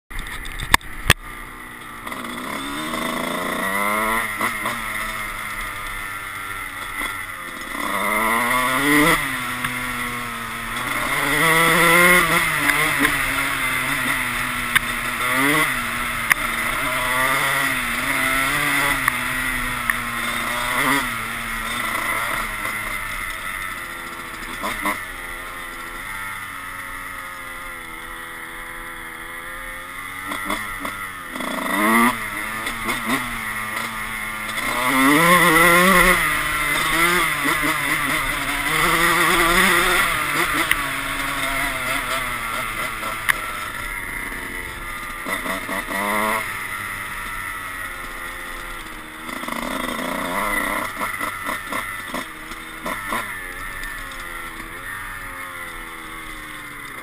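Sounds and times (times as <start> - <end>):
dirt bike engine revving: 0.1 - 57.0.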